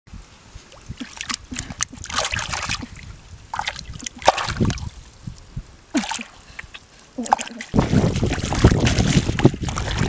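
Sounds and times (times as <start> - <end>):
splashing of shallow muddy water: 0.7 - 5.0, 6.0 - 10.0.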